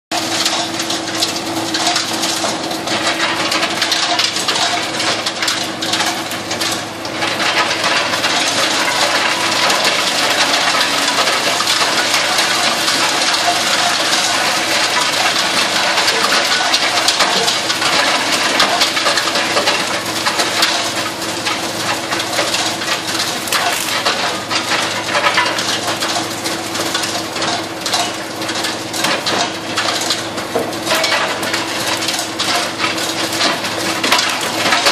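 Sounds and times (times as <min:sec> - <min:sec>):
steady machine hum: 0:00.1 - 0:34.9
wood chipper splintering branches: 0:00.1 - 0:34.9
wood chips rattling out: 0:00.2 - 0:34.9.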